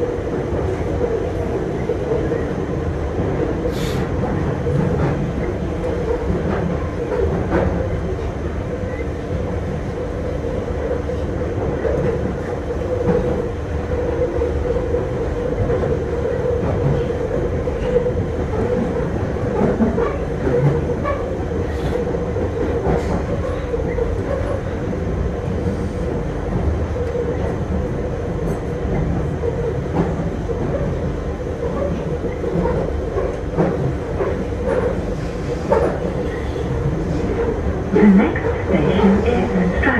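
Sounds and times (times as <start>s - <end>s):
continuous droning tone: 0.0s - 39.9s
train rumbling in a tunnel: 0.0s - 39.9s.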